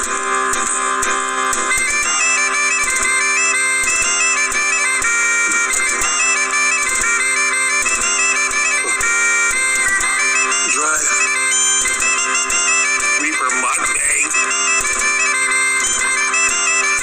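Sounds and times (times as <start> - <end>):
bagpipe music: 0.0 - 17.0.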